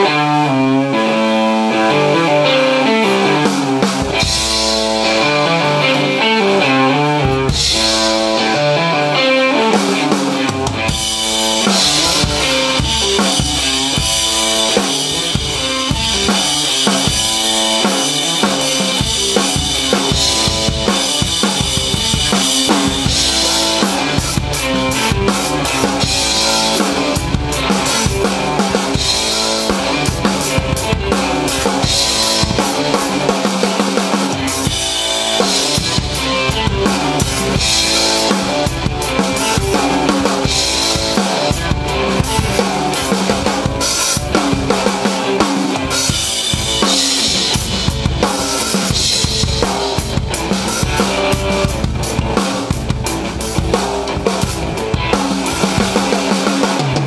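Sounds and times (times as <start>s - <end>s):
electric guitar playing: 0.0s - 57.0s
rock drum kit: 0.0s - 57.0s.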